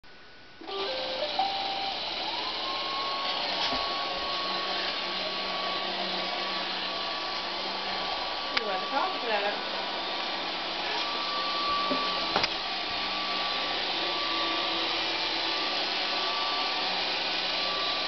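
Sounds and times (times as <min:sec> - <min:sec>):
robot vacuum motors whining: 0:00.6 - 0:18.0.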